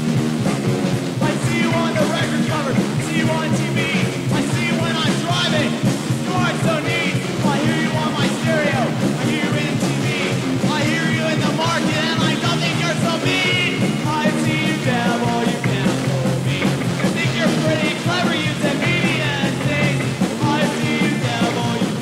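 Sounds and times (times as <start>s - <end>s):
punk rock band playing: 0.0s - 22.0s.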